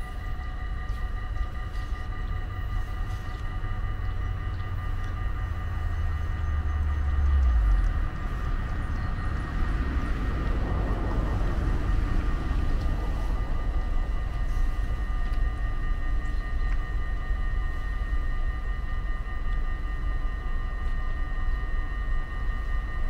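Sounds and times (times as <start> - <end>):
rail noise: 0.0 - 19.1
electric locomotive whine: 0.0 - 23.0
train low rumble: 0.0 - 23.0.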